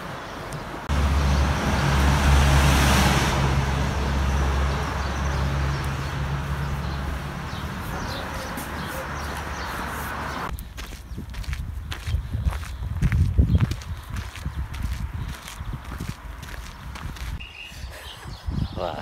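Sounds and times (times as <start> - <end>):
vehicle engine rumble: 0.1 - 17.4.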